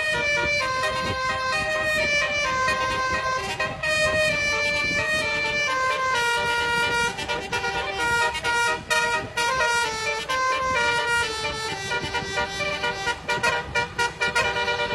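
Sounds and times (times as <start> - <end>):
musical vehicle horn playing tune: 0.0 - 14.9.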